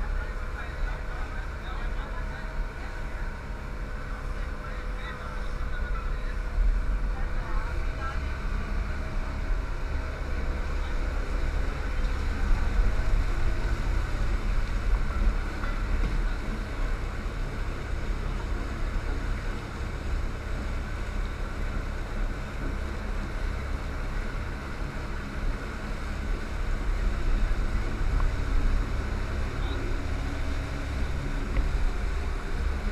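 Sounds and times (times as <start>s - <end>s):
boat engine running: 0.0s - 32.9s.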